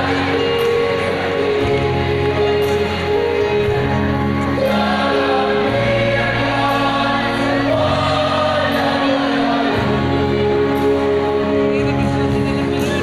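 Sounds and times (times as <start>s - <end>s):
choir singing through sound system: 0.0s - 11.5s.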